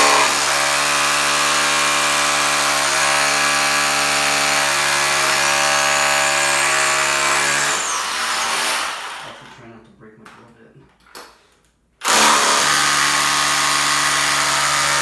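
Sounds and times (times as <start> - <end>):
rotary hammer drilling into concrete: 0.0 - 9.4, 12.0 - 15.0.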